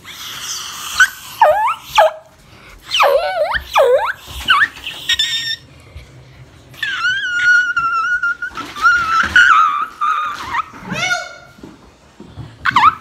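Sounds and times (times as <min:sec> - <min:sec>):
dog whining and whimpering: 0:00.0 - 0:05.7, 0:06.8 - 0:11.5, 0:12.6 - 0:13.0.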